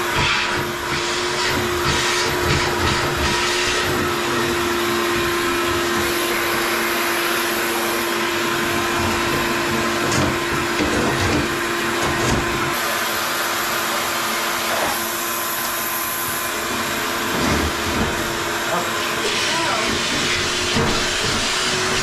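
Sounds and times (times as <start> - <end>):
electric motor hum: 0.0 - 12.9, 15.1 - 22.0.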